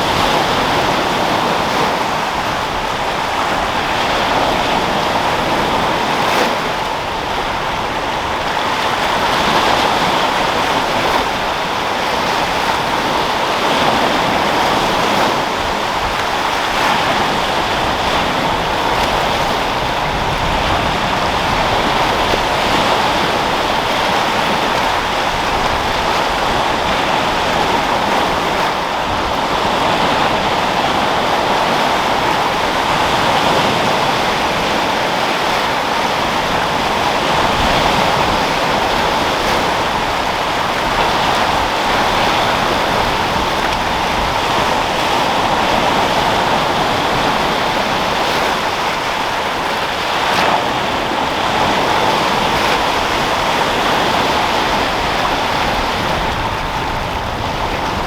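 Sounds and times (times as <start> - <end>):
sea waves breaking: 0.0 - 58.0
wind: 0.0 - 58.0.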